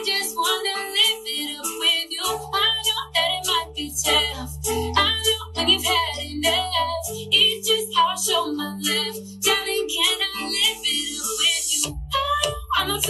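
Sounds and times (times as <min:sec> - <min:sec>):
person singing: 0:00.0 - 0:13.0
pop song over speakers: 0:00.0 - 0:13.0.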